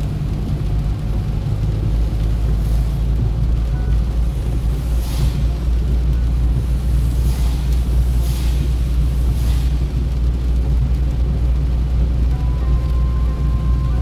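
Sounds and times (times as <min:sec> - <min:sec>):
car driving on wet road: 0:00.0 - 0:14.0
windshield wipers swishing: 0:00.0 - 0:14.0.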